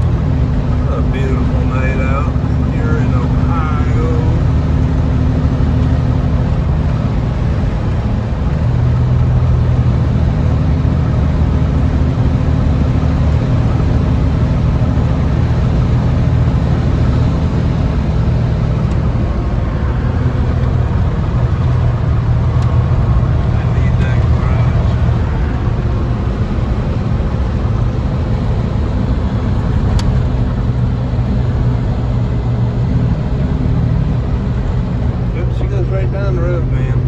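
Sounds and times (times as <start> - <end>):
pickup truck engine running: 0.0 - 37.0.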